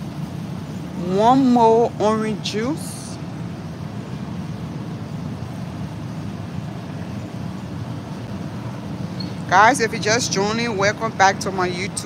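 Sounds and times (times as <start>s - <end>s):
supermarket background rumble: 0.0s - 12.0s.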